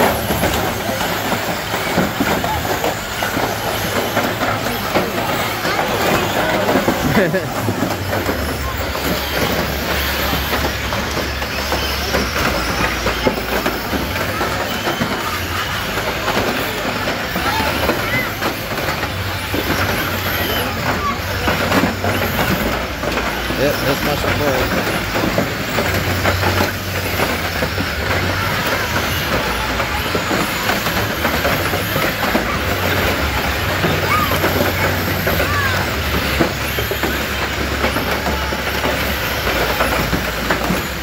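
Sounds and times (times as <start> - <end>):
crowd chatter: 0.0 - 41.0
toy cars bashing together: 0.0 - 41.0.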